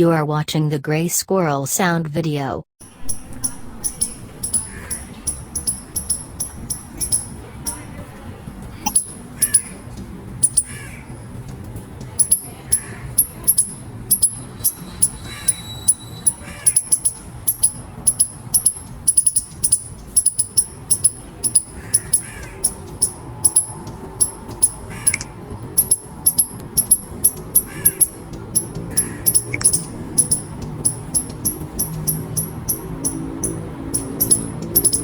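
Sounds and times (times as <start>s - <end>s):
faint lower squirrel calls: 2.8s - 8.1s, 8.8s - 11.4s, 12.1s - 35.0s
squirrel squeaking: 2.8s - 35.0s.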